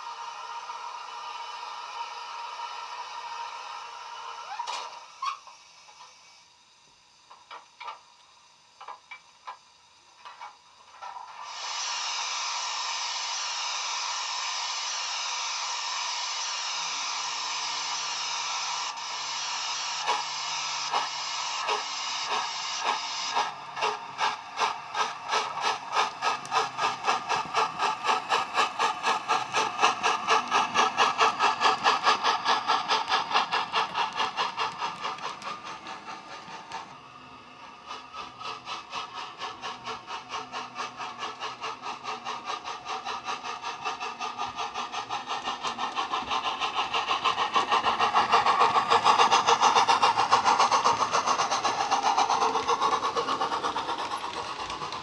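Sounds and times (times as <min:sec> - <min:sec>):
steam locomotive exhaust chuffs: 0:00.0 - 0:55.0.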